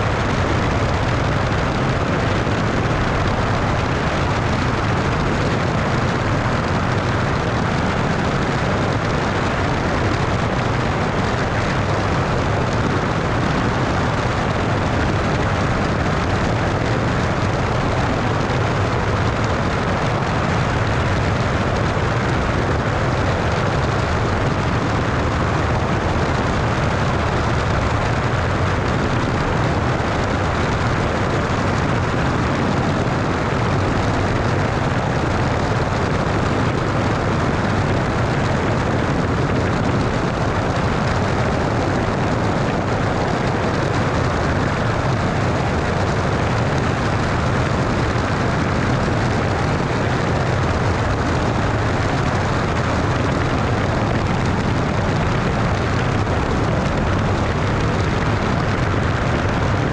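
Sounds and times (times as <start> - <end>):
aircraft engine and propeller drone: 0.0 - 59.9
wind rush over microphone: 0.0 - 59.9.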